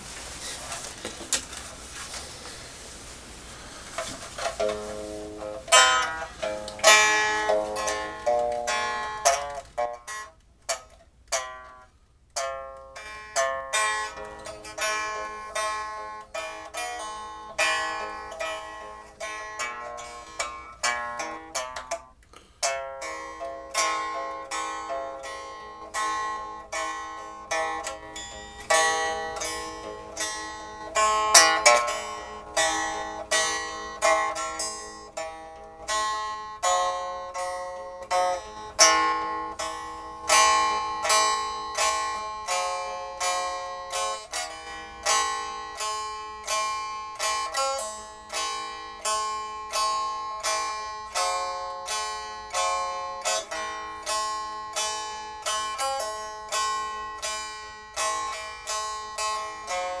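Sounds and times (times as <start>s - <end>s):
plucked zither melody: 4.0s - 60.0s.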